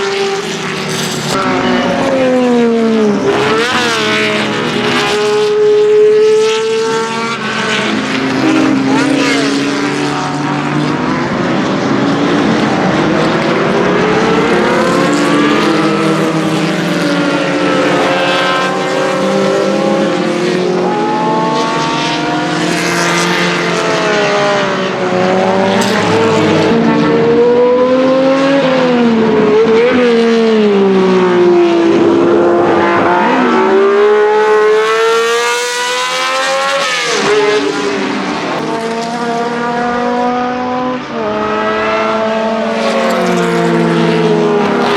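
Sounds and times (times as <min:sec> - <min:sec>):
racing engine at high revs: 0:00.0 - 0:44.9.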